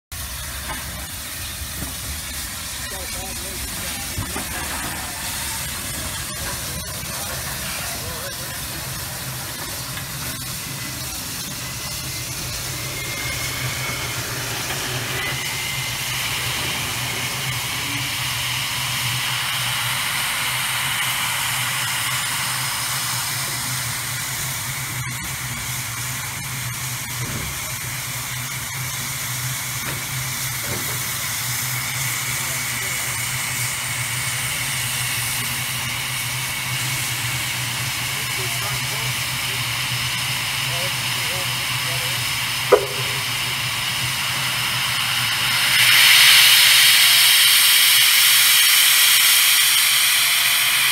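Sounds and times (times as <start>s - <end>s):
steam locomotive hissing: 0.1s - 50.9s.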